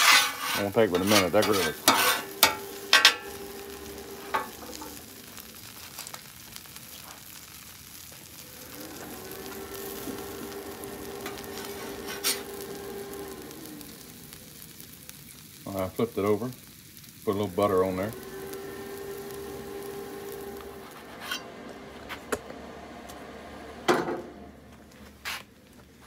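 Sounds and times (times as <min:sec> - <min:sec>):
sandwich sizzling on griddle: 0:00.0 - 0:26.0.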